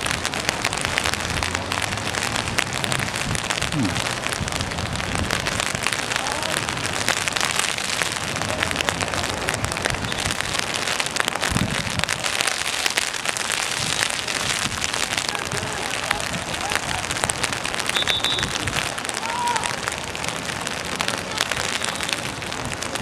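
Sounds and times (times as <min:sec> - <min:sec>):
rain pattering: 0:00.0 - 0:23.0.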